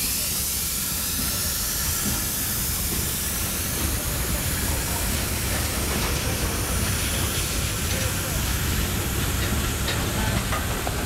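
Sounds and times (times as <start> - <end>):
diesel locomotive engines rumbling: 0.0 - 11.0
boxcars rolling on rails: 0.1 - 11.0.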